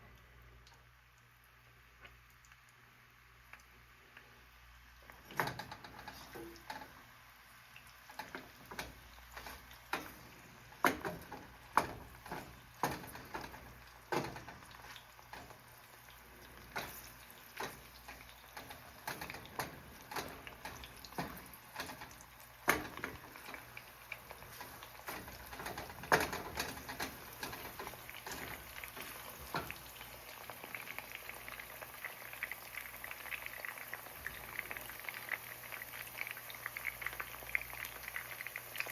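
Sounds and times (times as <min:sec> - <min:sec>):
mushrooms frying in oil: 0:00.0 - 0:38.9.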